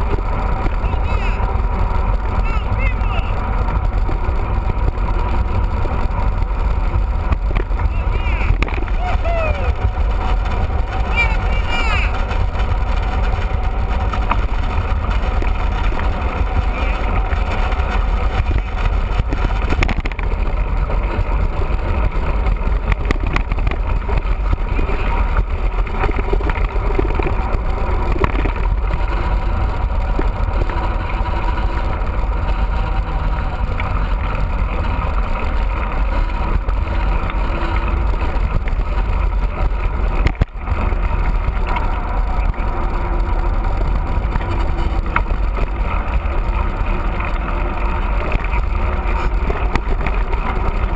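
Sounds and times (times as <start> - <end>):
wind rumble on microphone: 0.0 - 50.9.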